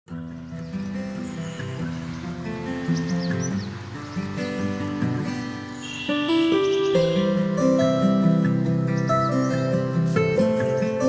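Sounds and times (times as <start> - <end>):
instrumental music with held notes: 0.1 - 11.0.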